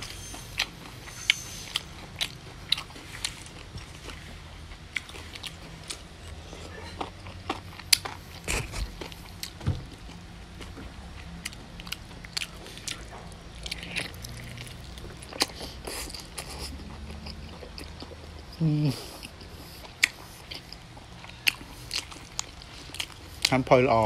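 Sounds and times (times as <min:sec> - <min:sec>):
person chewing food: 0:00.0 - 0:23.7.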